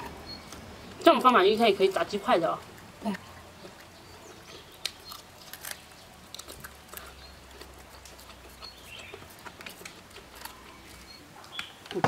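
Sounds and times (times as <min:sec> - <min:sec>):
crispy food crunching: 0:01.8 - 0:12.0.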